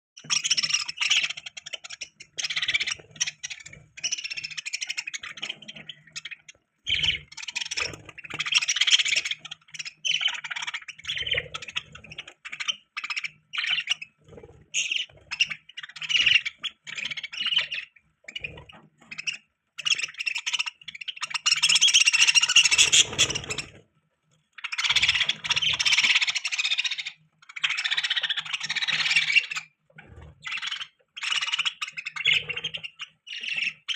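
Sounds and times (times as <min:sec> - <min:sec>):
budgerigars chirping and chattering: 0:00.2 - 0:23.8, 0:24.5 - 0:33.9.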